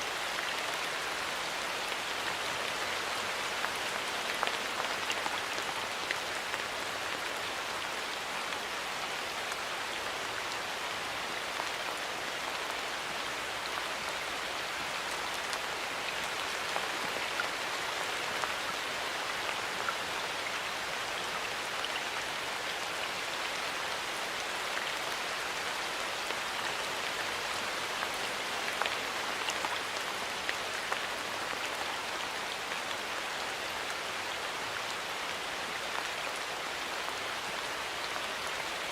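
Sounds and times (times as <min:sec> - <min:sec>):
rain hissing in a forest: 0:00.0 - 0:38.9
raindrops pattering on leaves: 0:00.0 - 0:38.9.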